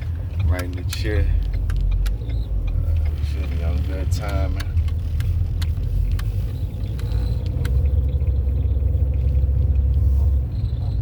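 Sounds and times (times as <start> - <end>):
car road rumble inside cabin: 0.0 - 11.0.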